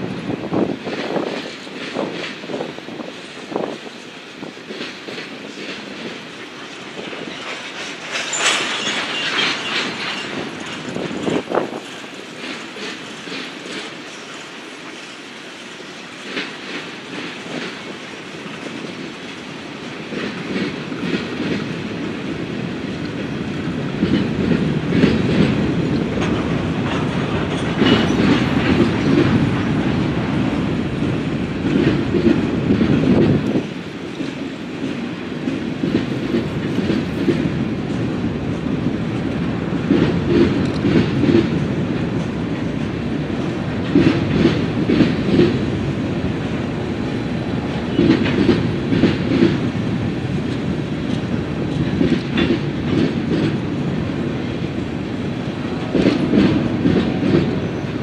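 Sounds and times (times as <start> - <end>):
wheels clickety-clack on rail joints: 0.0 - 58.0
freight cars rumbling: 5.1 - 14.6, 16.5 - 58.0.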